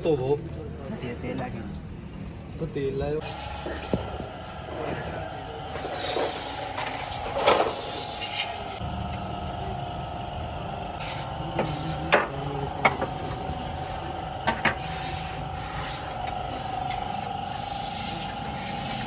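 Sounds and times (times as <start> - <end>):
machine humming with whine: 3.2 - 19.0.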